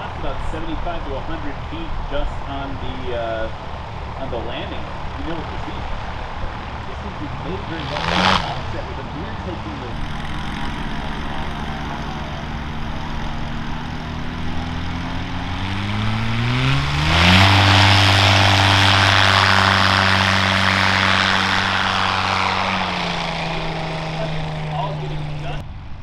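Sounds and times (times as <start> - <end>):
aircraft engine revving: 0.0 - 26.0
propeller noise: 0.0 - 26.0.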